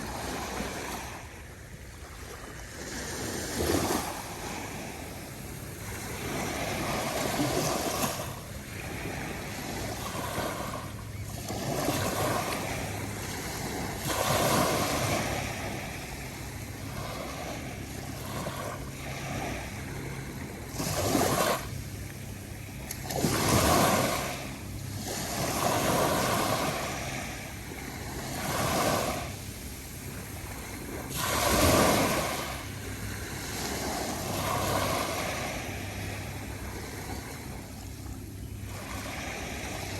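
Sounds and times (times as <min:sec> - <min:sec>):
waves breaking on sandy shore: 0:00.0 - 0:39.9.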